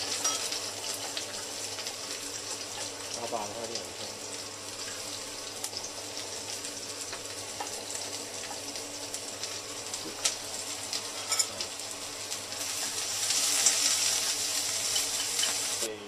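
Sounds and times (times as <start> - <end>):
oil popping and crackling: 0.0 - 15.9
onion sizzling in a wok: 0.0 - 16.0.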